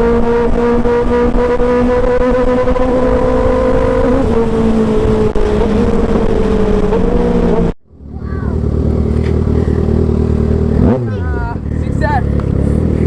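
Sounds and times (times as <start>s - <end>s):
high-revving motorcycle engine: 0.0s - 13.0s.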